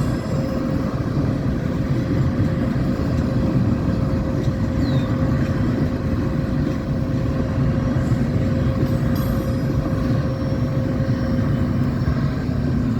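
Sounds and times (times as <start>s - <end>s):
vehicle engine rumbling: 0.0s - 12.9s.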